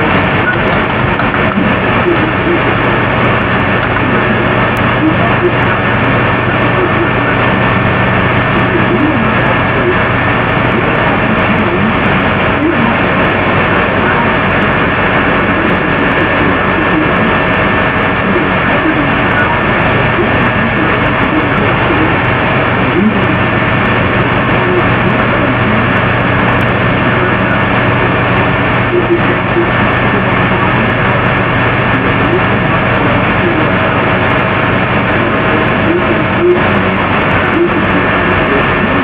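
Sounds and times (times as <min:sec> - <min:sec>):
loud hiss and static: 0:00.0 - 0:39.0
steady hum tones: 0:00.0 - 0:39.0.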